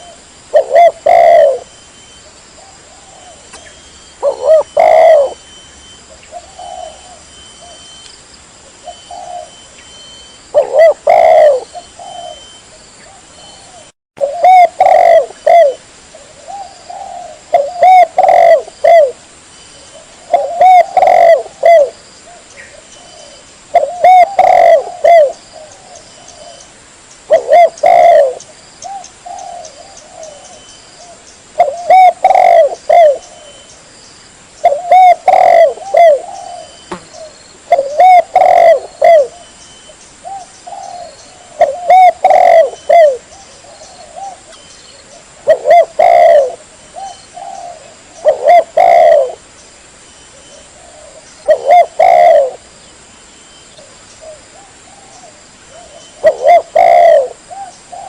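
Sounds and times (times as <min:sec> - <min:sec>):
dove cooing: 0:00.0 - 0:07.9, 0:08.8 - 0:19.2, 0:19.8 - 0:26.7, 0:27.3 - 0:33.7, 0:34.6 - 0:49.4, 0:50.3 - 0:52.6, 0:53.8 - 0:58.0.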